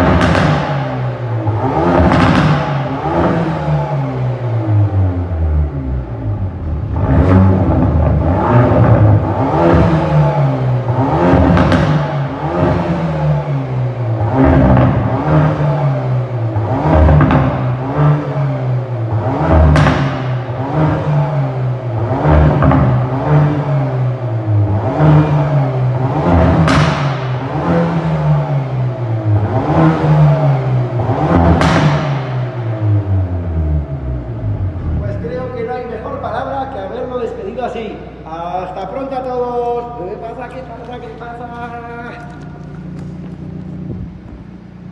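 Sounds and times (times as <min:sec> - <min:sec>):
car engine revving: 0:00.0 - 0:44.9
exhaust cracks: 0:00.0 - 0:44.9.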